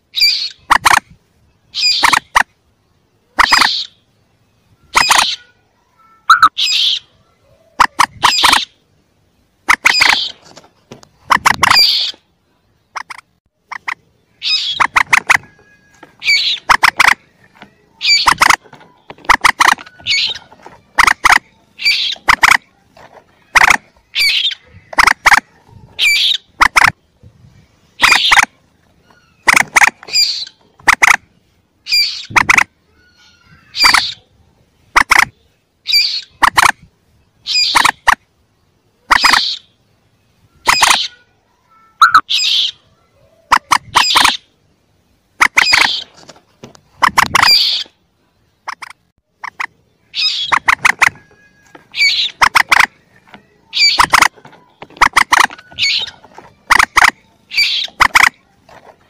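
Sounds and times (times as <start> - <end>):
moorhen squawking calls: 0.1 - 2.5, 3.3 - 5.6, 6.2 - 8.9, 9.6 - 10.6, 11.2 - 38.2, 39.0 - 41.3, 42.0 - 44.6, 45.4 - 46.2, 46.9 - 48.0, 48.6 - 59.0.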